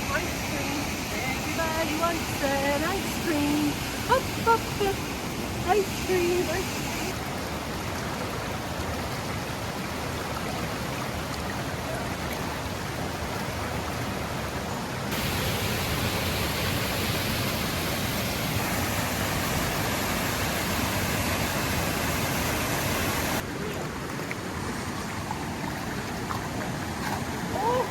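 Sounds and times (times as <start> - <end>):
river water tumbling over rocks: 0.1 - 27.9.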